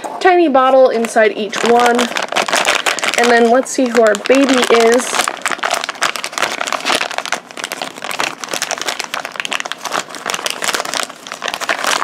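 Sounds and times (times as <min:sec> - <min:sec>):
crinkly wrapper tearing: 0:01.0 - 0:12.0.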